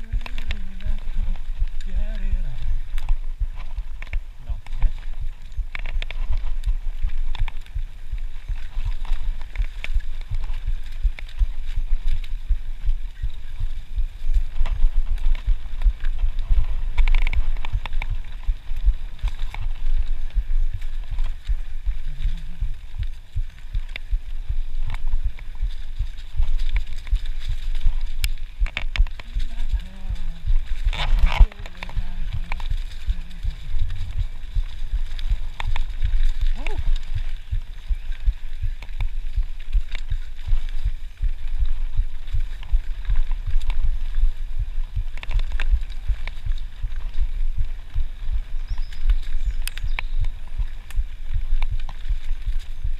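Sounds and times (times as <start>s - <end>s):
bike rattling over bumps: 0.0s - 52.9s
wind buffeting microphone: 0.0s - 52.9s.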